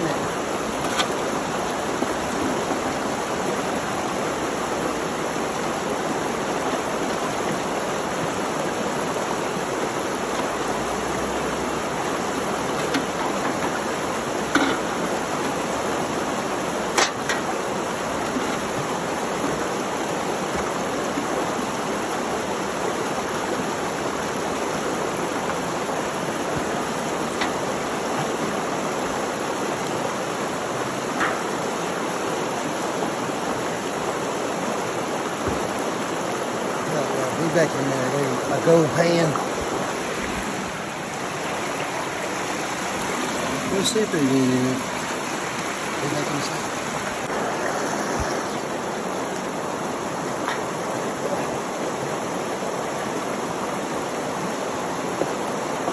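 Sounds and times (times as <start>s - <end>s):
creek water rushing over rocks: 0.0s - 55.9s.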